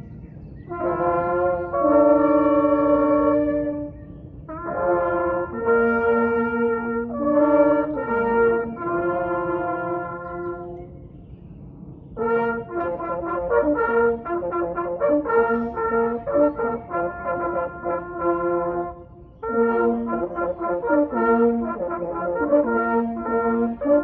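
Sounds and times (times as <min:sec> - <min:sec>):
brass ensemble playing: 0:00.7 - 0:10.9, 0:12.2 - 0:24.0.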